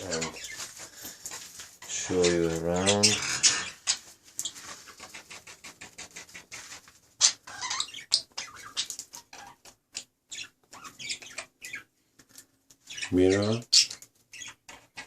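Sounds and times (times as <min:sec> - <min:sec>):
budgerigars chattering: 0:00.0 - 0:06.6, 0:07.2 - 0:09.6, 0:10.3 - 0:11.9, 0:12.9 - 0:15.0.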